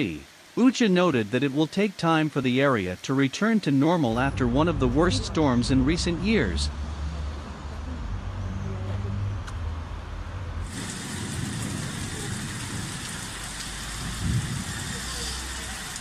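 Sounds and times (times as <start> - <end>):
rain and wind hiss: 0.0 - 7.4, 10.6 - 16.0.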